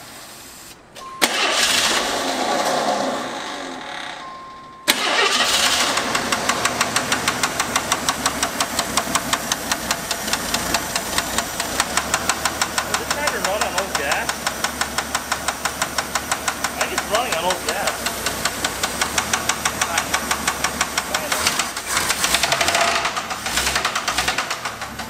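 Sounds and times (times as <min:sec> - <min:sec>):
car engine turning over: 0:00.0 - 0:25.0
engine running with rapid knock: 0:04.8 - 0:25.0.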